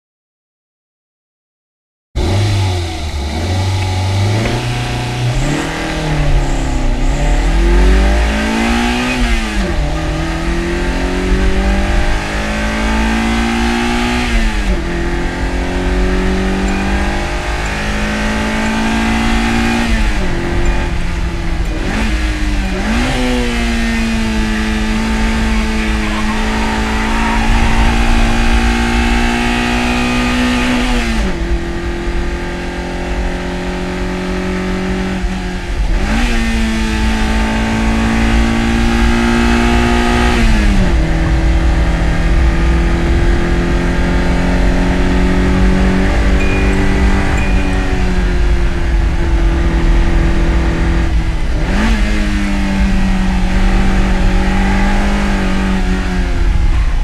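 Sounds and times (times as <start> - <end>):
engine revving through gears: 2.2 - 57.0.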